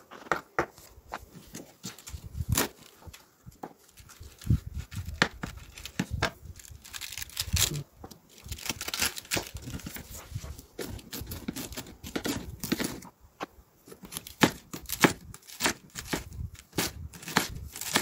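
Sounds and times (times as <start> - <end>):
cabbage leaves tearing: 1.8 - 3.2, 3.8 - 13.0, 13.9 - 18.0.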